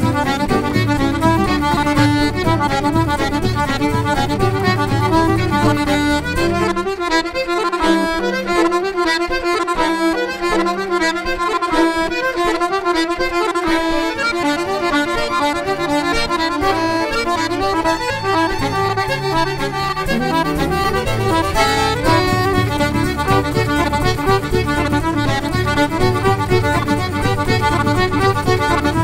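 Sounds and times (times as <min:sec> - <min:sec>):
button accordion playing fast tune: 0:00.0 - 0:29.0
fiddle: 0:00.0 - 0:29.0
low accompaniment: 0:00.0 - 0:29.0.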